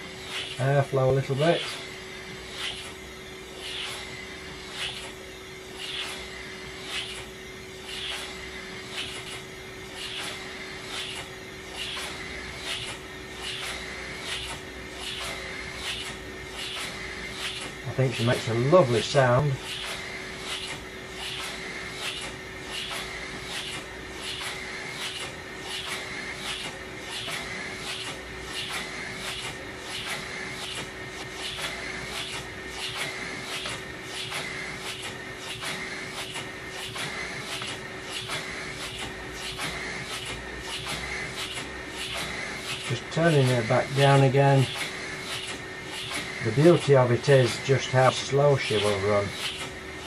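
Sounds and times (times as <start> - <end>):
vacuum cleaner motor whine: 0.0 - 50.0
model engine exhaust puffs: 2.4 - 49.8.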